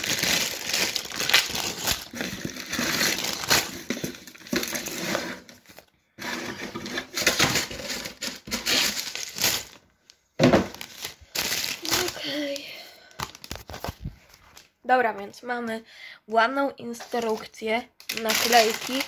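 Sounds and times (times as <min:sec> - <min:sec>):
cardboard packaging crinkling and tearing: 0:00.0 - 0:09.9, 0:10.6 - 0:14.7, 0:17.0 - 0:19.0.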